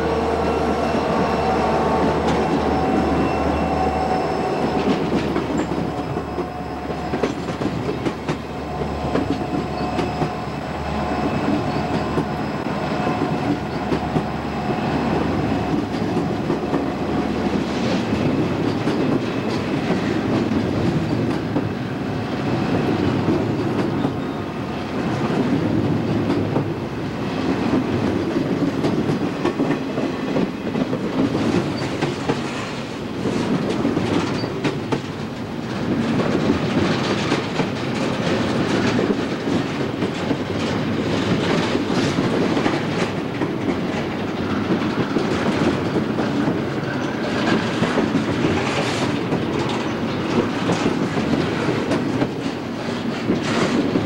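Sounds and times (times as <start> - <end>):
train wheels rumbling on rail: 0.0 - 54.0
wheels clacking over rail joints: 0.2 - 26.8, 27.4 - 54.0.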